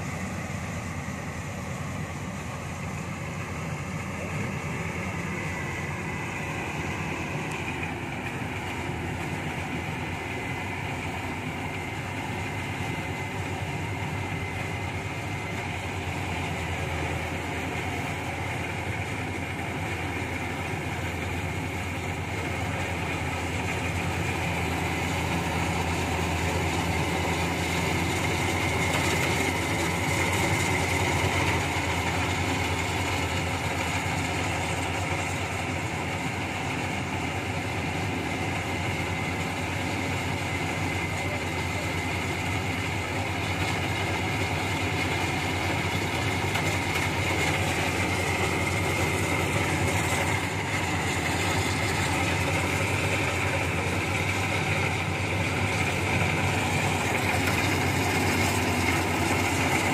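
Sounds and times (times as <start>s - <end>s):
combine harvester engine drone: 0.0s - 59.9s
machinery whine: 0.0s - 59.9s.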